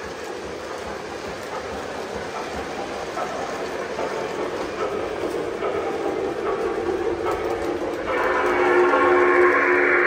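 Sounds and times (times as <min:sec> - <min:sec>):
model train rumbling on track: 0:00.0 - 0:10.0.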